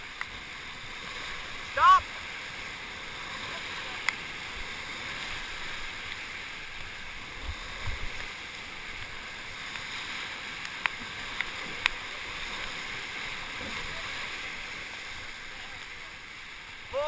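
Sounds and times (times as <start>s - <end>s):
whitewater river rushing: 0.0s - 17.0s.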